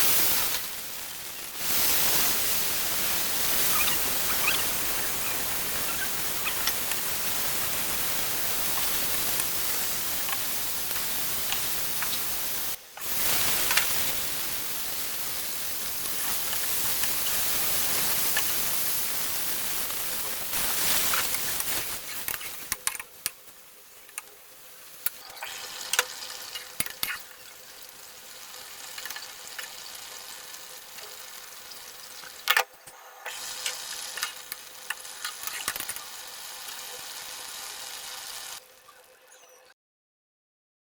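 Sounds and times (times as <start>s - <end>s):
cauliflower sizzling in a pan: 0.0s - 39.2s.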